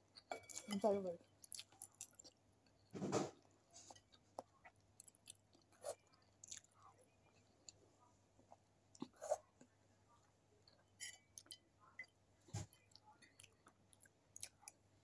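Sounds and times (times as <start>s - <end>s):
person chewing: 1.2s - 7.8s, 8.5s - 14.8s.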